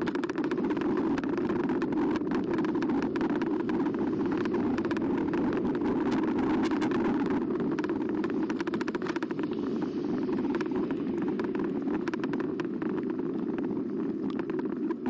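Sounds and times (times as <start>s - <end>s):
rapid clicks and rattles: 0.0s - 15.0s
wind and tyre rumble: 0.0s - 15.0s.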